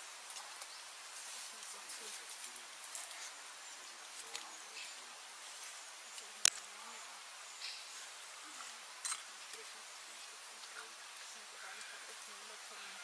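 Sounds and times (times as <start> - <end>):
murmur of distant voices: 0.0 - 13.0.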